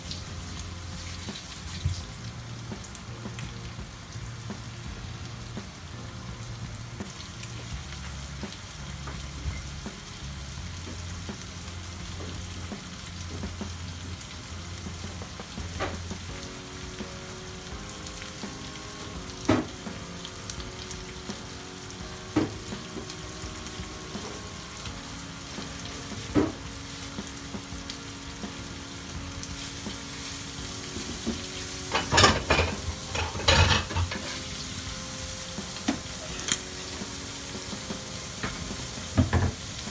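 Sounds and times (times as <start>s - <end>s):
liver sizzling in a frying pan: 0.0s - 39.9s.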